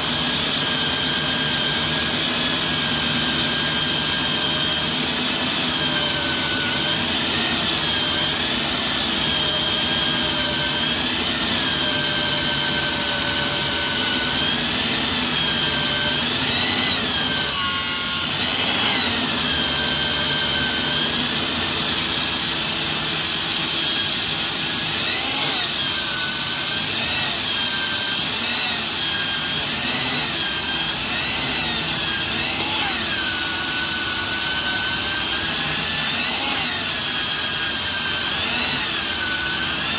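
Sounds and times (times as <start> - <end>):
core drill motor whining: 0.0 - 39.9.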